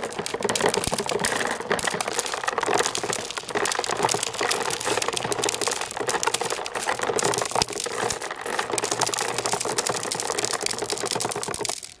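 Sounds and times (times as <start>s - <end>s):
marbles clattering down plastic run: 0.0s - 12.0s.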